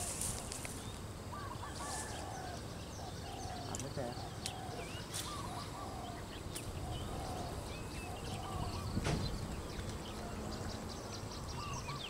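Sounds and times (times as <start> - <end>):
low warbling bird call: 0.0 - 12.0
small birds chirping: 0.0 - 12.0.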